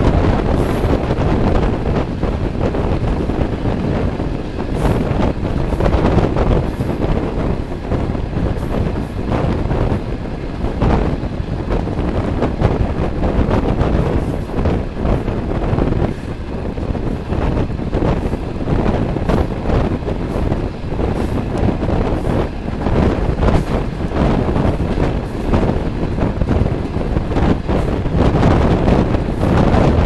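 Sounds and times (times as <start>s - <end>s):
train carriage rumbling on rails: 0.0s - 30.0s
wind rushing over microphone: 0.0s - 30.0s.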